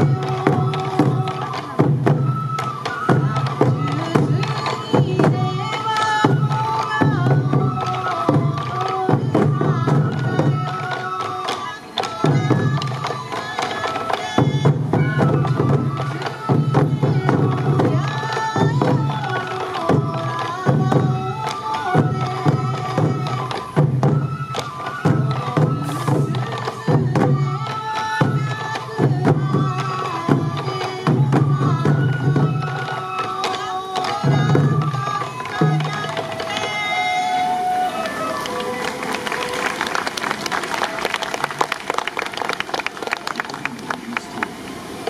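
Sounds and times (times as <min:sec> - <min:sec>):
taiko drums beating: 0:00.0 - 0:36.8
bamboo flute melody: 0:00.0 - 0:45.0.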